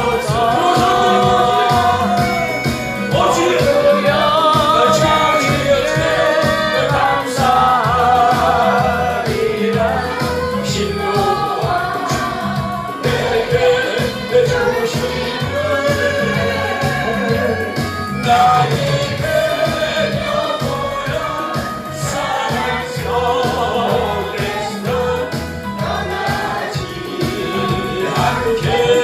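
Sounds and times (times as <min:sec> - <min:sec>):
group singing gospel: 0:00.0 - 0:29.0
instrumental backing with beat: 0:00.0 - 0:29.0.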